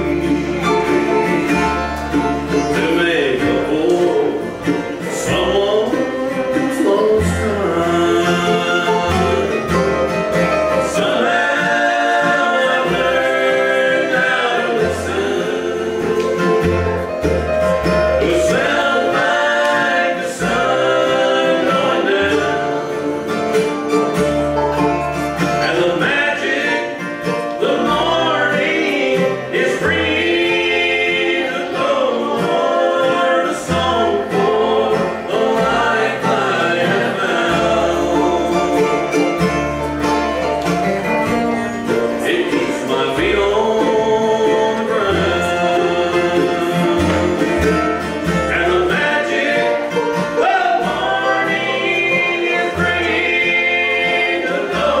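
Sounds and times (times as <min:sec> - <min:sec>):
harmony singing: 0:00.0 - 0:40.5, 0:41.4 - 0:55.0
acoustic string instruments: 0:00.0 - 0:55.0
bass line: 0:00.0 - 0:55.0.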